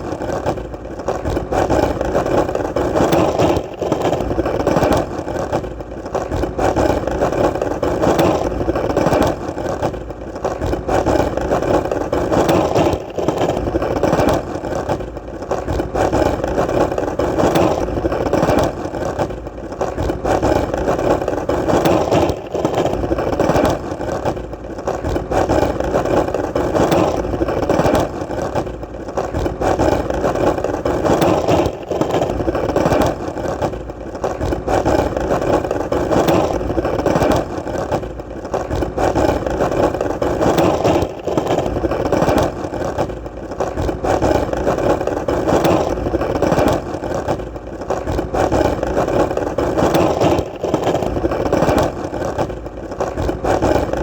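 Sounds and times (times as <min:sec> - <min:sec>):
skateboard wheels rolling: 0:00.0 - 0:54.0.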